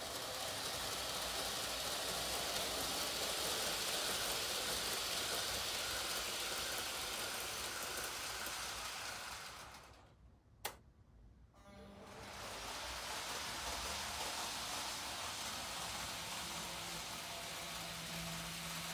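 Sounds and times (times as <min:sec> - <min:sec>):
model train running on track: 0:00.0 - 0:10.0, 0:12.0 - 0:18.9.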